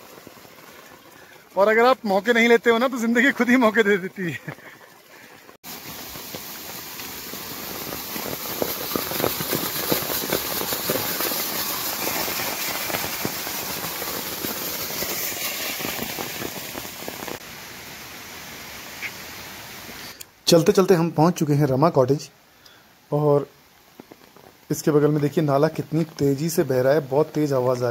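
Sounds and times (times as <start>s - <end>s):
heavy rain on an umbrella: 0.0s - 20.2s, 22.9s - 27.9s.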